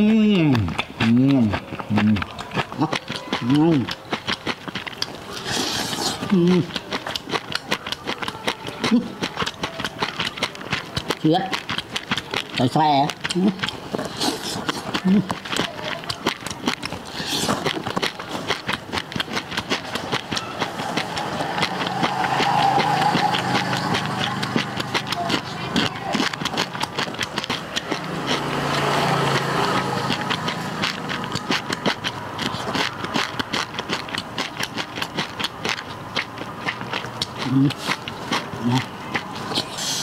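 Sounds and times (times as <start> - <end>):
crunching fried fish: 0.0 - 40.0.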